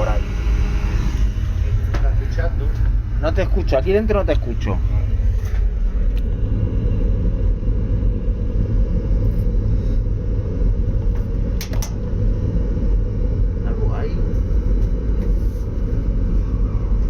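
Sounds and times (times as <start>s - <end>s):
oil burner rumbling: 0.0s - 17.0s.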